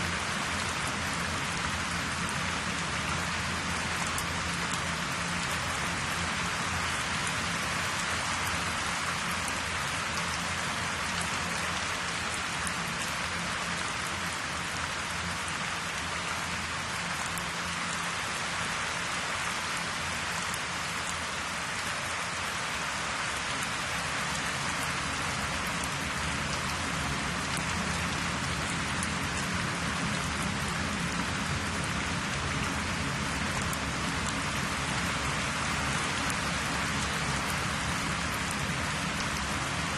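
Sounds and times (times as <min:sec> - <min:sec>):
steady hiss like rain: 0:00.0 - 0:39.9.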